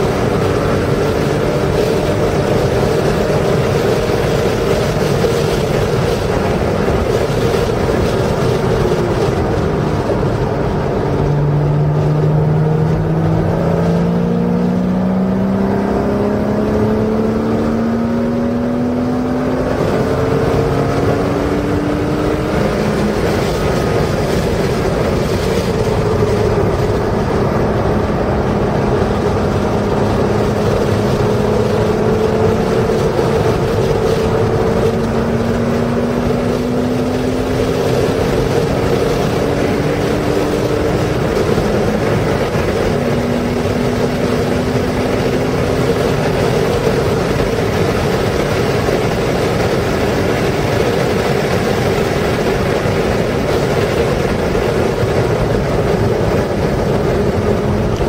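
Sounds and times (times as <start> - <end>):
car engine under load: 0.0 - 58.0
wind and road noise: 0.0 - 58.0.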